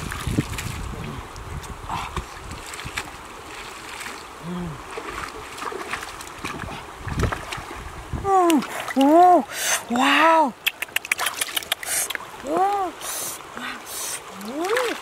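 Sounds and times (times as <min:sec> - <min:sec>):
river water running over stones: 0:00.0 - 0:15.0.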